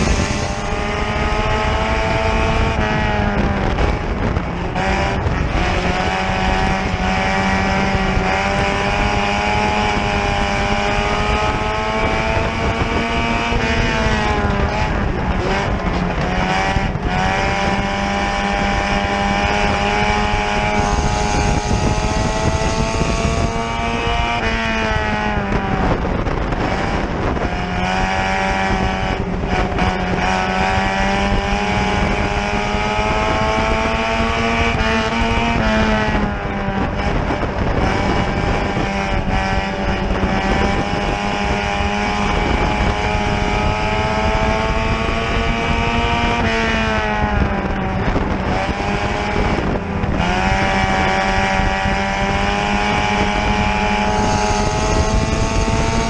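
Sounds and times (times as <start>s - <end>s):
race car engine at high revs: 0.0s - 56.0s
tyre and wind noise: 0.0s - 56.0s.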